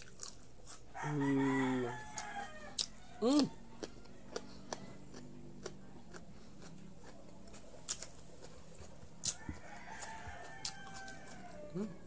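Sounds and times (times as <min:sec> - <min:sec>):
crunchy chewing of vegetables: 0:00.0 - 0:12.0.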